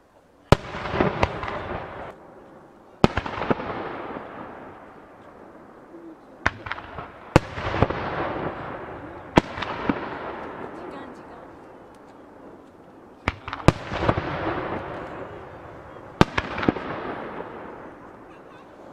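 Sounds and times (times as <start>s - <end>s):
fireworks booming: 0.5s - 18.9s
rolling echo: 0.5s - 18.9s.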